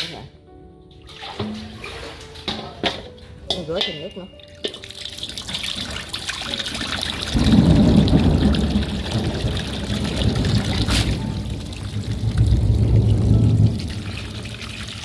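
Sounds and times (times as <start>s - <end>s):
running water rinsing: 1.1s - 15.0s.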